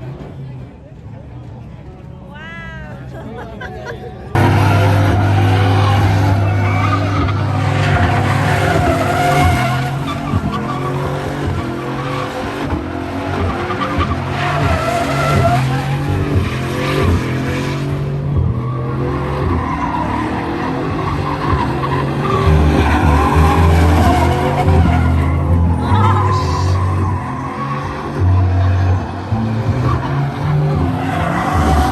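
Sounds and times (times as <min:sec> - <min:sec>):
tires squealing on pavement: 0:04.3 - 0:31.9
truck engine revving: 0:04.3 - 0:31.9.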